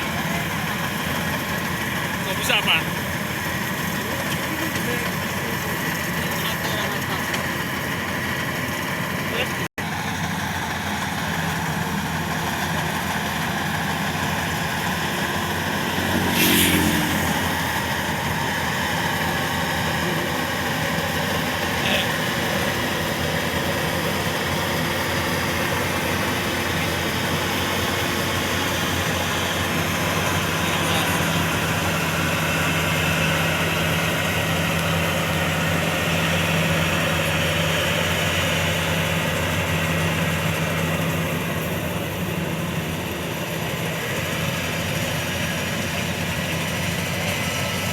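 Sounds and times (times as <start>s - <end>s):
combine harvester engine running: 0.0s - 47.9s.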